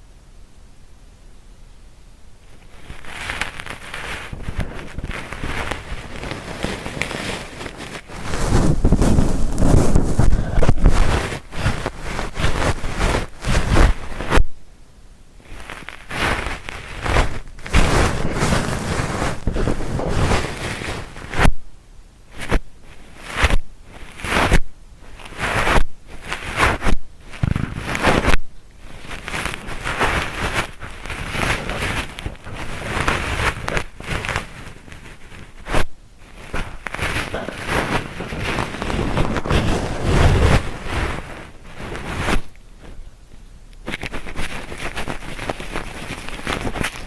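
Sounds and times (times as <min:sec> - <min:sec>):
tools scratching inside microphone ear: 0:02.6 - 0:14.4, 0:15.5 - 0:21.5, 0:22.4 - 0:43.0, 0:43.8 - 0:47.0.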